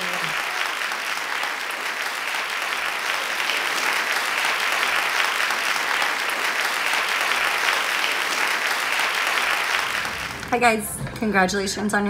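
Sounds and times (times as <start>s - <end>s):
applause: 0.0s - 10.8s.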